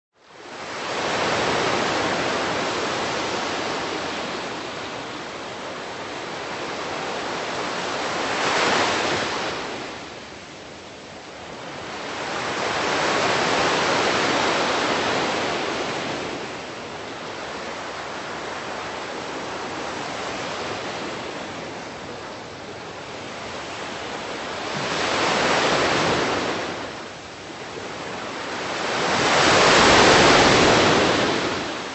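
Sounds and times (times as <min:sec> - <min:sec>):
sea waves surging in a cave: 0:00.5 - 0:31.9.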